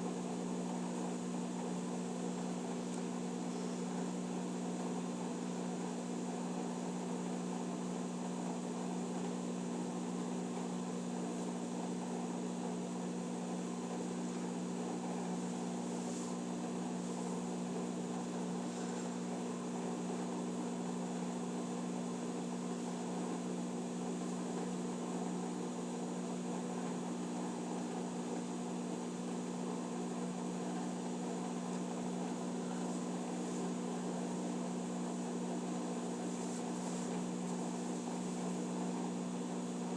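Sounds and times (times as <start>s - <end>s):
washing machine electrical hum: 0.0s - 39.9s.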